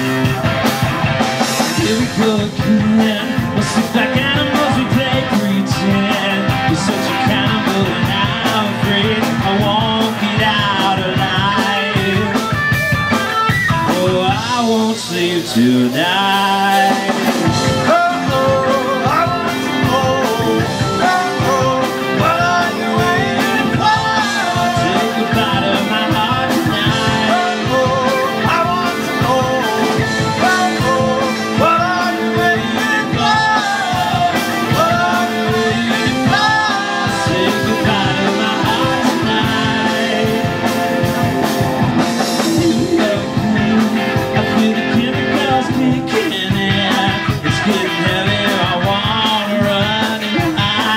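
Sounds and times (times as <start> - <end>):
live rock band playing: 0.0 - 50.9
pitch-bending lead melody: 0.0 - 50.9.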